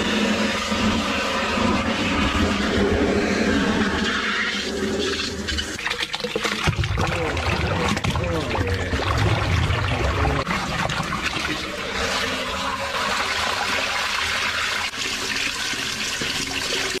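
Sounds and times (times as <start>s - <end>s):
water rushing down a drain: 0.0s - 17.0s.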